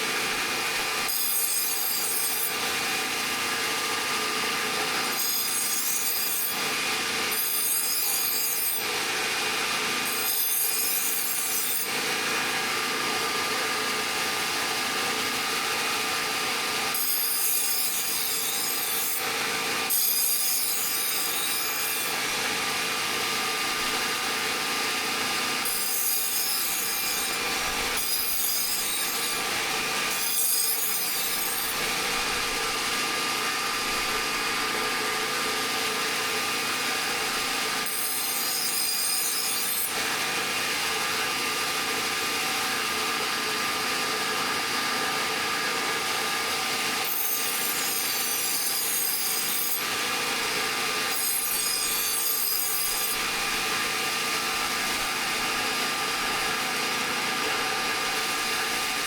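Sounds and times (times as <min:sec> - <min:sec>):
power tool grinding steel: 0:00.0 - 0:59.0.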